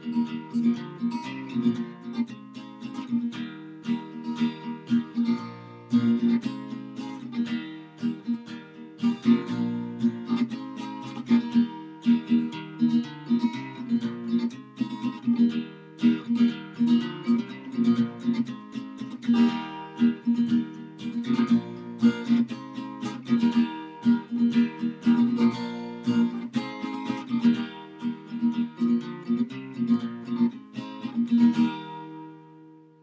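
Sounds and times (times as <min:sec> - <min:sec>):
acoustic guitar blues: 0:00.0 - 0:33.0.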